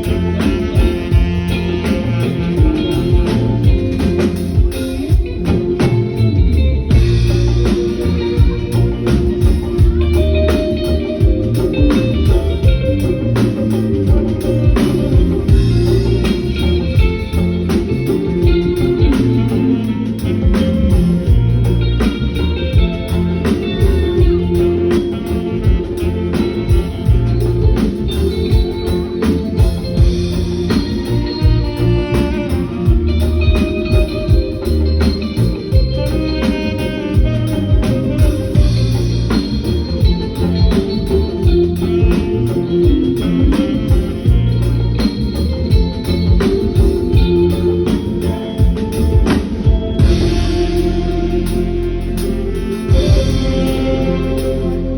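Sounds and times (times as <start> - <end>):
drum kit steady beat: 0.0 - 54.9
electric guitar: 0.0 - 54.9
heavy low bass: 0.0 - 54.9
organ-like keyboard: 0.0 - 54.9.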